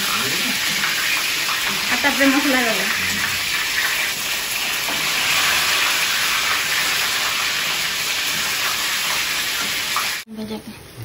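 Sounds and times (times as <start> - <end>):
eggplant sizzling in hot oil: 0.0 - 10.7.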